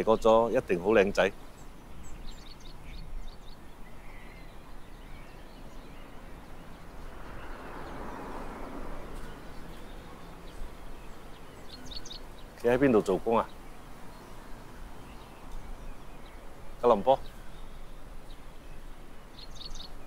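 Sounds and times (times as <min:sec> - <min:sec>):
faint bird chirps: 0:00.0 - 0:08.0, 0:09.1 - 0:20.0.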